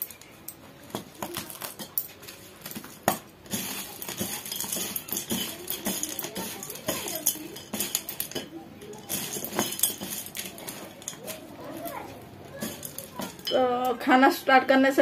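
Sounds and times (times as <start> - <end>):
crisp snack rustling: 0.0 - 13.5.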